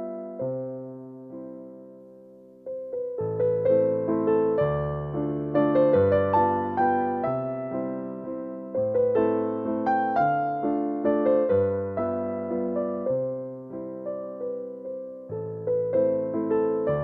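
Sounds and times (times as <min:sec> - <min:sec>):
gentle piano-like keyboard music: 0:00.0 - 0:17.0.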